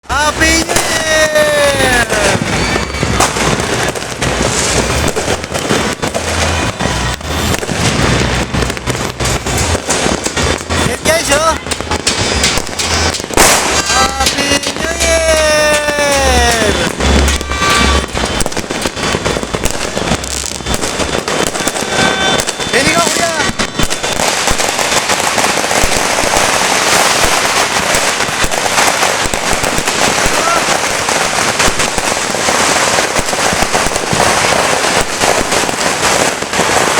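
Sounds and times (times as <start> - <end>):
fireworks and firecrackers banging: 0.0 - 36.9.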